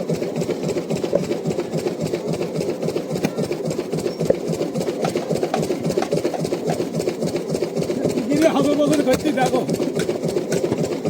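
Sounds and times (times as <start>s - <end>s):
engine running with fast clatter: 0.0s - 11.0s.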